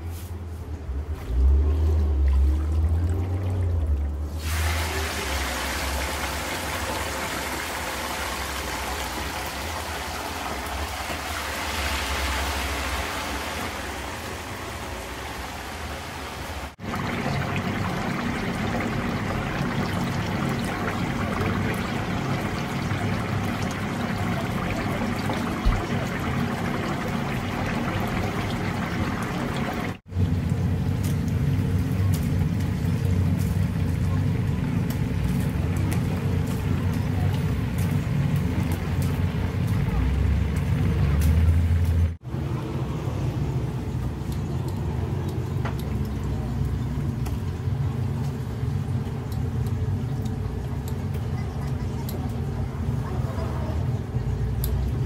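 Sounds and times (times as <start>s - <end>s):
oil bubbling and sizzling: 0.0s - 55.0s.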